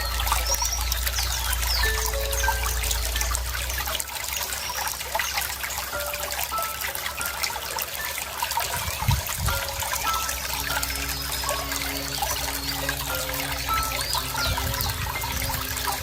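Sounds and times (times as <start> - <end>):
small birds chirping: 0.0 - 16.0
water trickling and splashing: 0.0 - 16.0.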